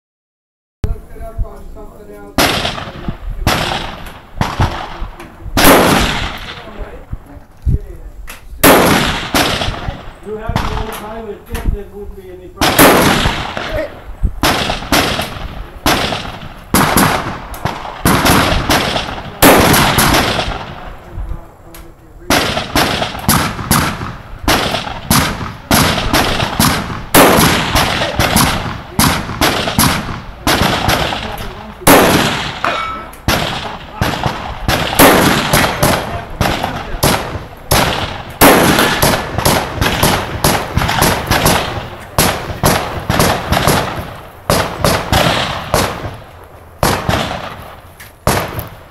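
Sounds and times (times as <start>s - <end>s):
rifle shots: 2.4s - 7.1s, 8.6s - 11.7s, 12.6s - 21.1s, 22.2s - 48.9s.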